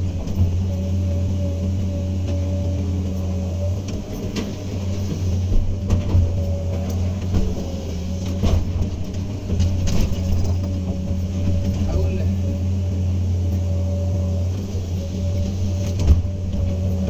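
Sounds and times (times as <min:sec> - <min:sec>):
excavator diesel engine running: 0:00.0 - 0:17.0
steady whine: 0:00.0 - 0:17.0.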